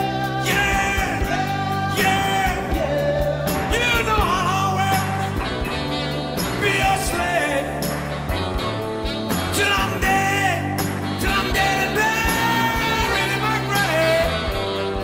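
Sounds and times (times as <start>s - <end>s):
bass and drums: 0.0s - 15.0s
rock and roll band music: 0.0s - 15.0s
sliding lead guitar melody: 0.0s - 15.0s.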